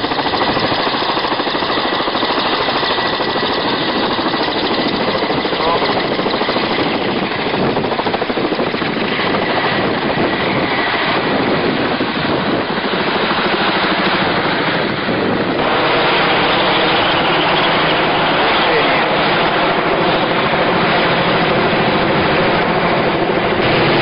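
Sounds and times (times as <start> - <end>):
helicopter rotor chop: 0.0 - 24.0
high whine: 0.0 - 24.0.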